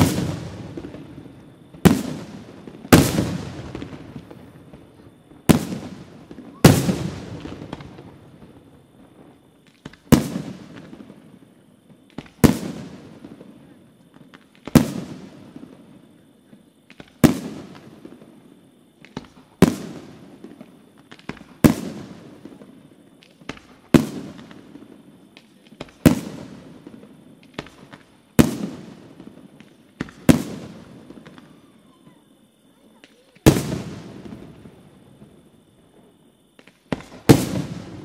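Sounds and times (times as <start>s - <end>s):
quiet firework pops: 0.0s - 11.3s, 11.9s - 18.3s, 19.0s - 38.0s.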